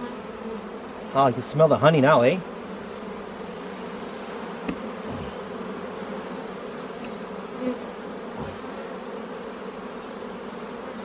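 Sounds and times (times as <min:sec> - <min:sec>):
bees humming: 0:00.0 - 0:11.0.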